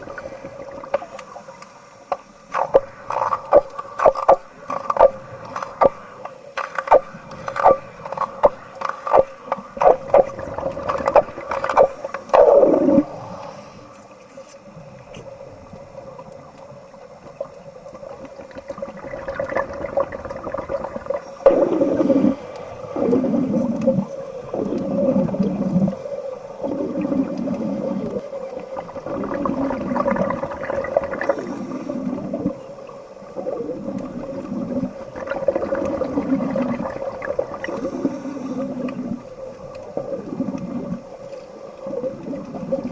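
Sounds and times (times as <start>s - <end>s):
underwater bubbling and gurgling: 0.0s - 42.9s.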